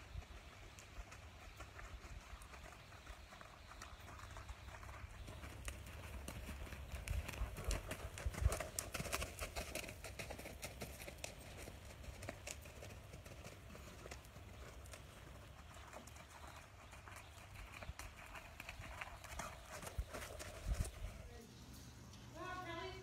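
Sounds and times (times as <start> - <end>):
horse hoofbeats on soft dirt: 0.0 - 23.0.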